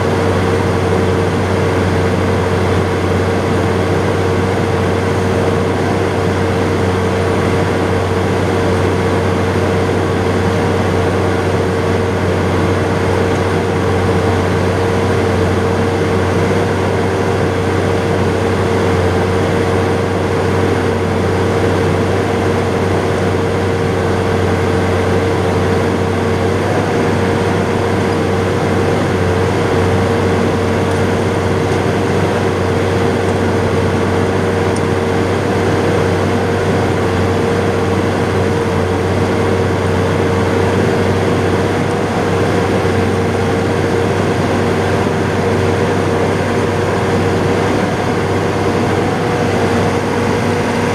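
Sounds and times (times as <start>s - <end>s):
tractor diesel engine droning: 0.0s - 50.9s.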